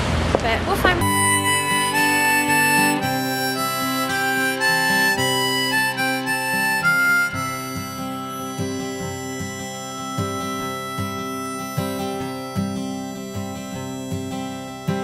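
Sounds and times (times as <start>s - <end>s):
low musical accompaniment: 0.9s - 15.0s
free-reed instrument melody: 1.0s - 15.0s.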